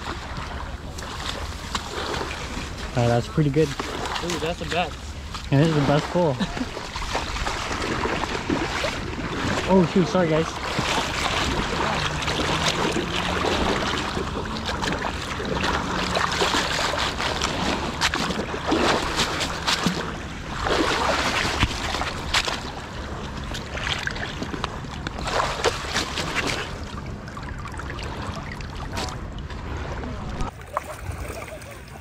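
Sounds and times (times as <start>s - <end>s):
water splashing at shoreline: 0.0s - 32.0s.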